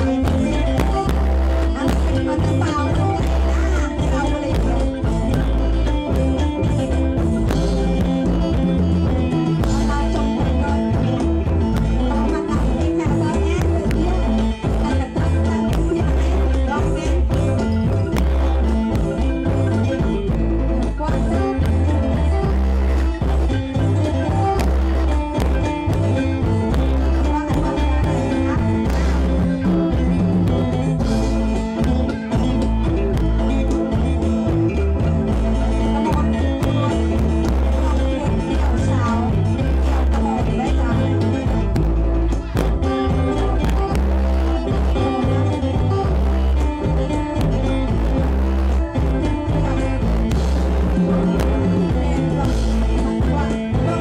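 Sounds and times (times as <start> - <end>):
drums beating dance rhythm: 0.0 - 54.0.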